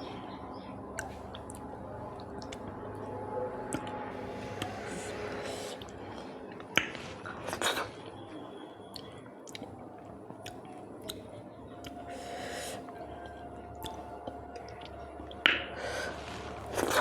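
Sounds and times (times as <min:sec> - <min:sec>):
wet chewing of food: 0:00.8 - 0:17.0.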